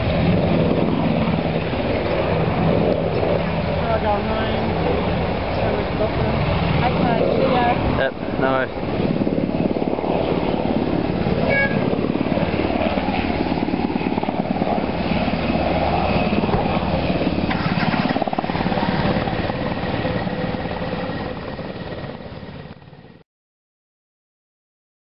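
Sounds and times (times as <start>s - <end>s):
helicopter engine and rotor chop: 0.0s - 23.2s.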